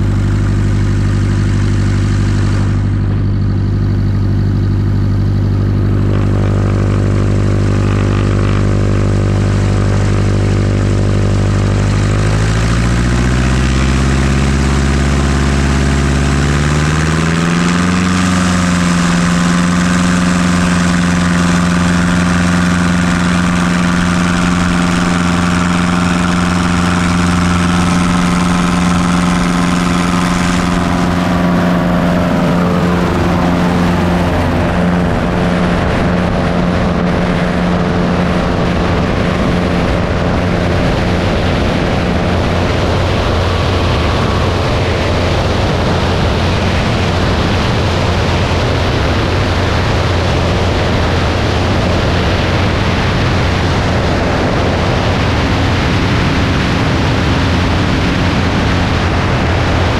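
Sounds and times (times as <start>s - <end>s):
airplane engine and propeller hum: 0.0s - 59.9s
loud rush of wind: 0.0s - 59.9s.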